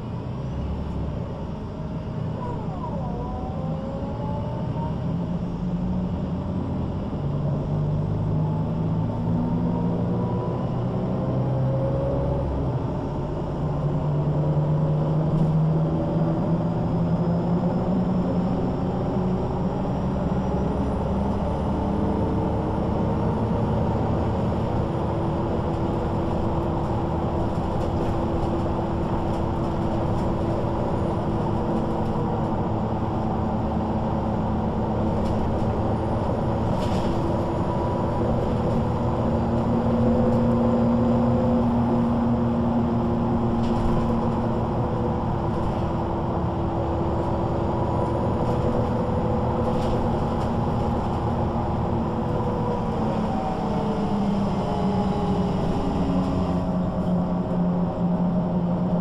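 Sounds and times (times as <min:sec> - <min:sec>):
bus engine and gearbox drone: 0:00.0 - 0:59.0.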